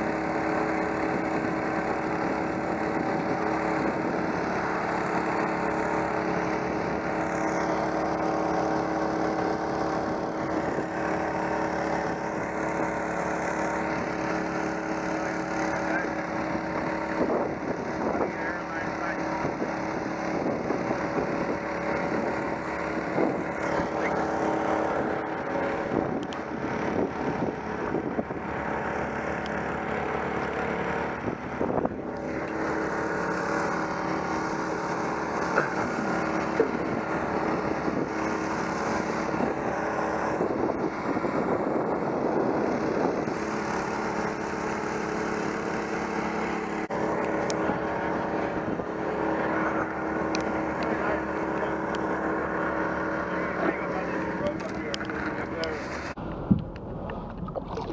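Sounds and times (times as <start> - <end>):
engine running steadily: 0.0 - 57.9.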